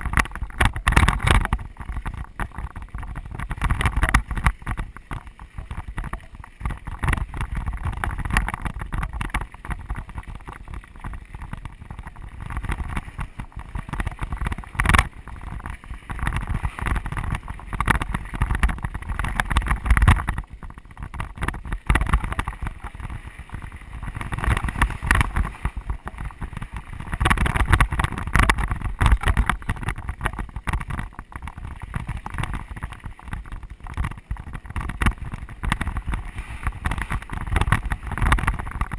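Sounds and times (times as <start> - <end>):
bike knocks and rattles: 0.0 - 38.9
wind rumbling on microphone: 0.0 - 38.9.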